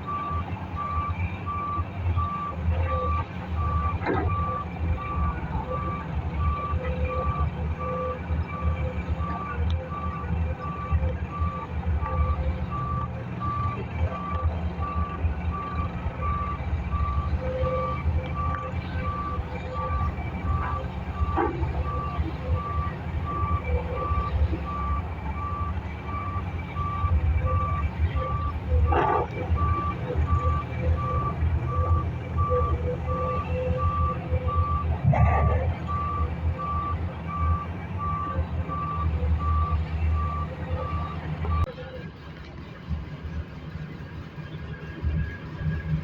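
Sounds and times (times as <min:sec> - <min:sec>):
diesel engines rumbling: 0:00.0 - 0:46.0.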